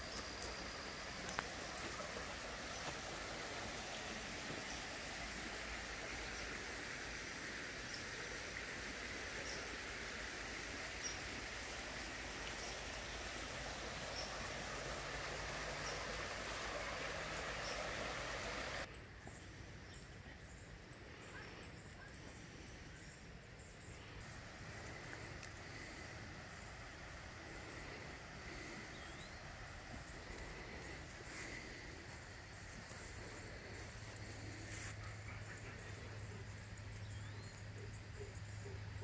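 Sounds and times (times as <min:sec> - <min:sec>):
creek water flowing: 0:00.0 - 0:18.9, 0:19.5 - 0:39.0
quiet outdoor background: 0:00.0 - 0:39.0.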